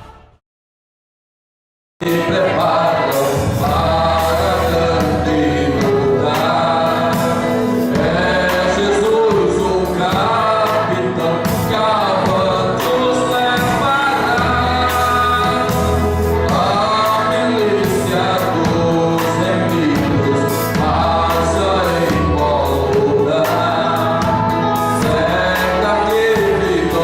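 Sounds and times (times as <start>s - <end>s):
bass notes: 2.0s - 27.0s
choir singing gospel: 2.0s - 27.0s.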